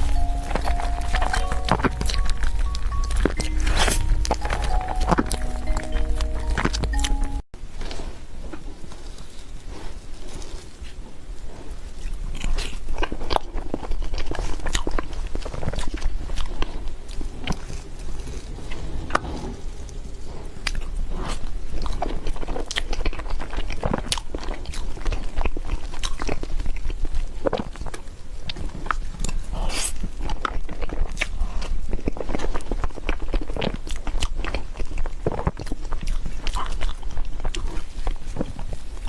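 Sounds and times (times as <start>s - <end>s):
person chewing: 0.0s - 10.8s, 11.5s - 19.4s, 20.4s - 39.0s.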